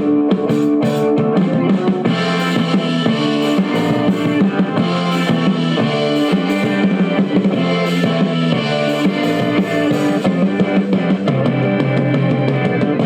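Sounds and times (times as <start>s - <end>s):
rock music with drums and guitar: 0.0s - 13.0s.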